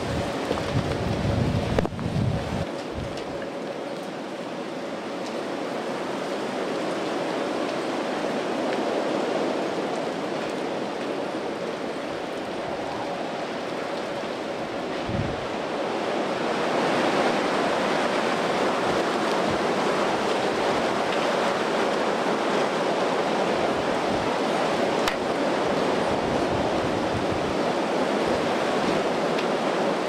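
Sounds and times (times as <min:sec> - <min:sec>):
strong wind rushing through trees: 0:00.0 - 0:30.0.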